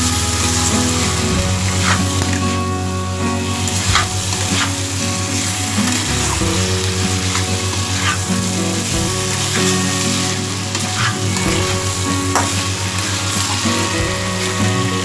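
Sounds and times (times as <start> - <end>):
food sizzling in a pan: 0.0 - 15.0
spatula scraping a pan: 0.0 - 15.0.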